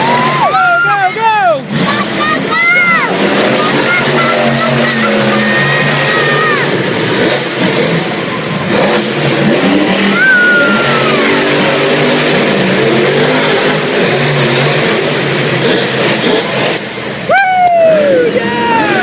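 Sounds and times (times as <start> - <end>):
truck engine revving loudly: 0.0 - 19.0.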